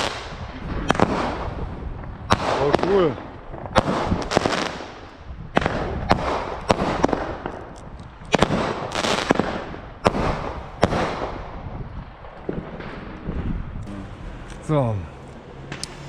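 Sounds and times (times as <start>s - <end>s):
fireworks banging and crackling: 0.0s - 14.8s.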